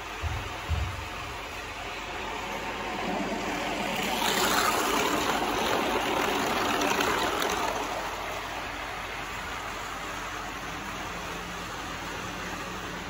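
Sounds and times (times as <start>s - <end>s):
model train motor rushing: 1.6s - 13.0s.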